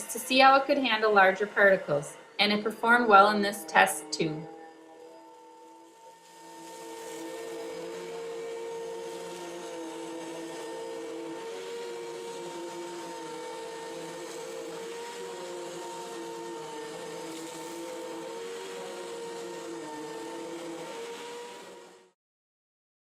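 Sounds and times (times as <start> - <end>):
vacuum cleaner motor whine: 0.0 - 22.2.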